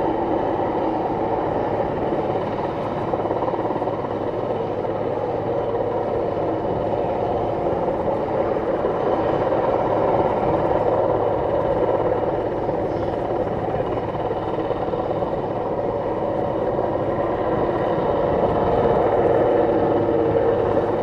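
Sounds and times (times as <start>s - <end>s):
helicopter rotor and engines: 0.0s - 21.0s.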